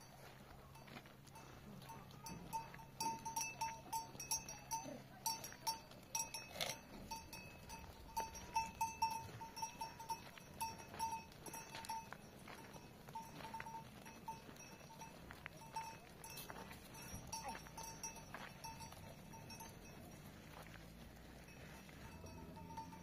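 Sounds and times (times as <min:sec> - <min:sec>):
small livestock bells clinking: 0:00.0 - 0:23.0.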